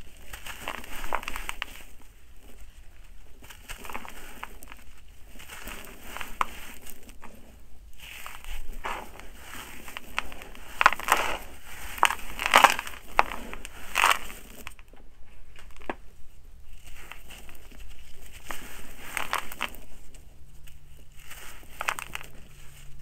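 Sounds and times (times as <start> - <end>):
hands crunching gritty soil: 0.0 - 16.0, 16.6 - 23.0.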